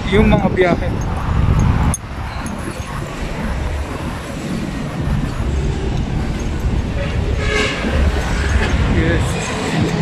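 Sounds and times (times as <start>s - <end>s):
cars and motorcycles passing: 0.0s - 10.0s
road traffic rumble: 0.0s - 10.0s.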